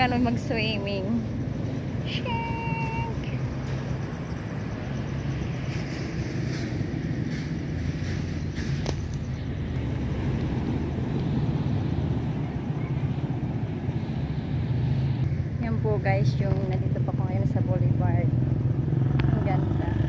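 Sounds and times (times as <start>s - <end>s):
distant surf: 0.0s - 19.4s
wind rumble: 0.0s - 20.0s.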